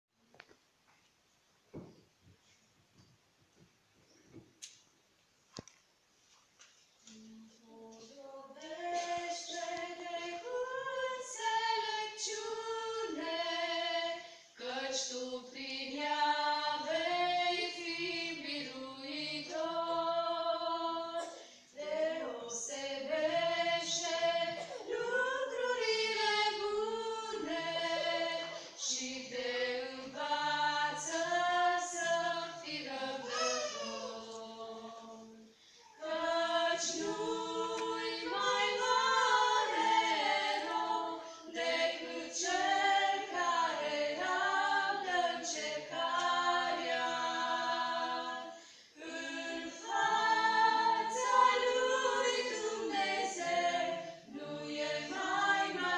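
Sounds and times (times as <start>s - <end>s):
women singing a hymn a cappella: 7.0s - 55.9s.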